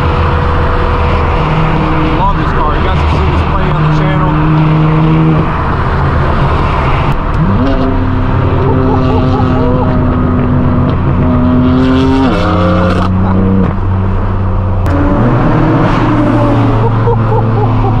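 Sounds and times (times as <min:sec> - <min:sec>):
car exhaust droning: 0:00.0 - 0:18.0.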